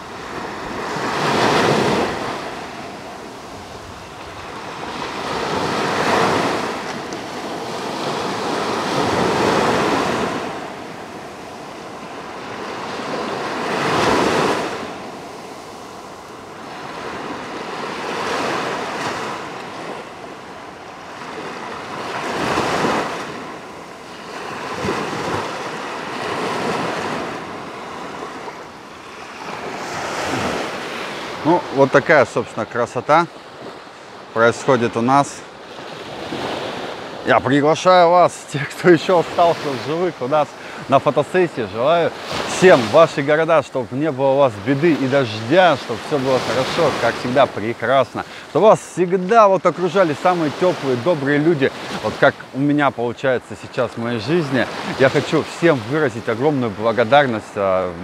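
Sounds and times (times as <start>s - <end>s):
surf breaking on sandy beach: 0.0s - 58.0s.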